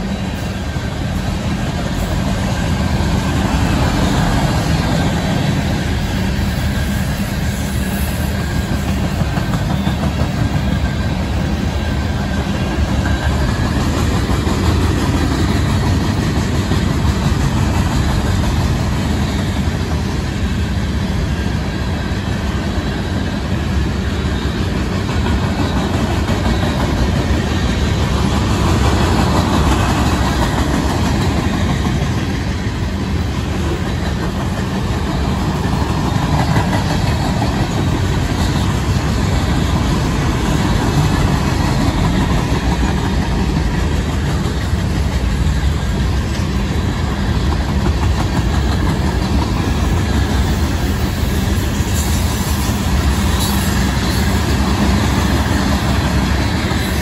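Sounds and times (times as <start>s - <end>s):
freight train rumbling by: 0.0s - 57.0s.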